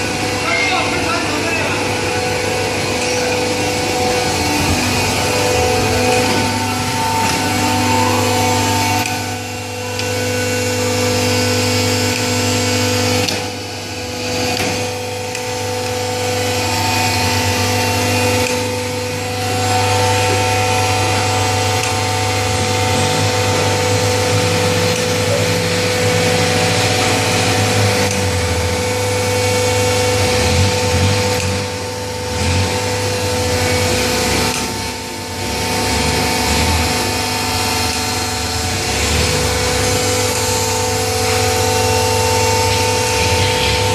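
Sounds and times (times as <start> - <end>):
baler machine humming: 0.0 - 43.9.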